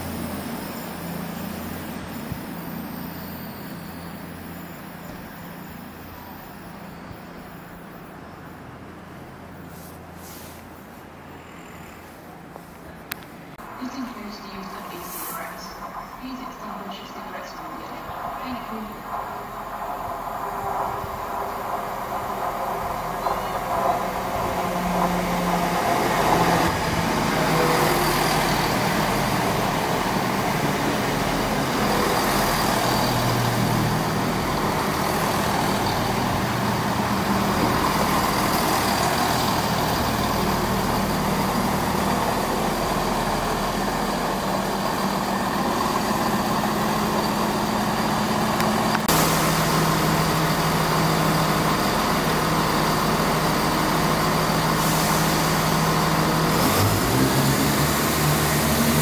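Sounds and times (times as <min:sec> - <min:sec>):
diesel engine: 0:00.0 - 0:59.0
train wheel and rail noise: 0:00.0 - 0:59.0.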